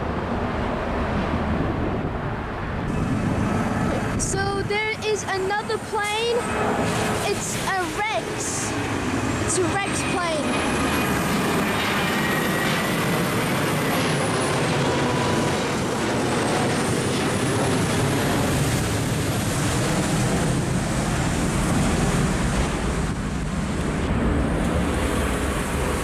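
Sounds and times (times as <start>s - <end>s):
high jet whine: 0.0s - 26.0s
jet airliner roar: 0.0s - 26.0s.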